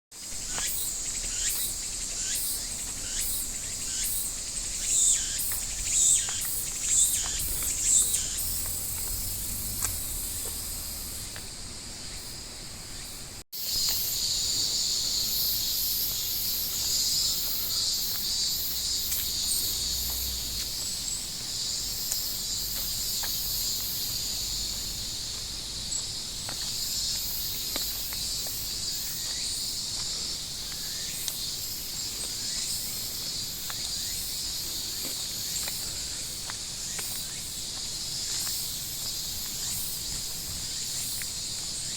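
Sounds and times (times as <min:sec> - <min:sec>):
cicadas buzzing: 0:00.1 - 0:41.9.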